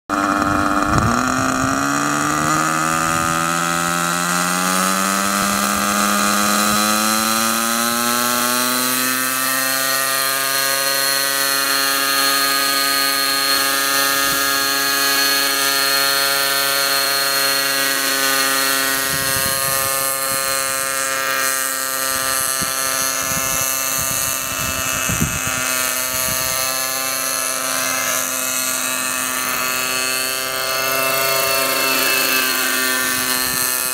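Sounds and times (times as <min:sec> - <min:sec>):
model helicopter engine and rotors: 0:00.1 - 0:33.9.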